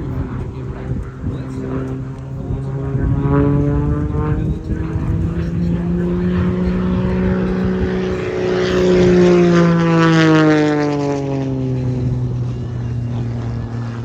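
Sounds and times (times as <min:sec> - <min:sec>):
propeller plane flying past: 0:00.0 - 0:14.0.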